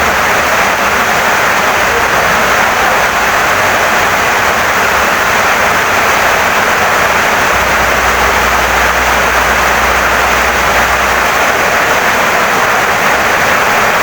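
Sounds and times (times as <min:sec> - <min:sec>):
low steady rumble: 0:00.0 - 0:13.4
heavy rain on a wooden house: 0:00.0 - 0:14.0.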